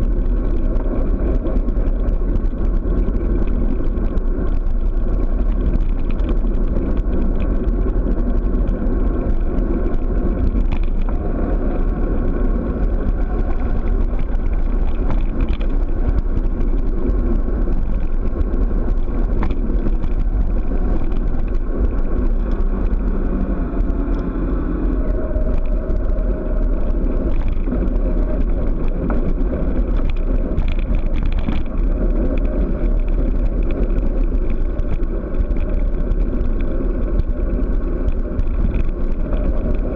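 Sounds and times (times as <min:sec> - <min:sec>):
tyre rumble on asphalt: 0:00.0 - 0:39.9
wind buffeting microphone: 0:00.0 - 0:39.9.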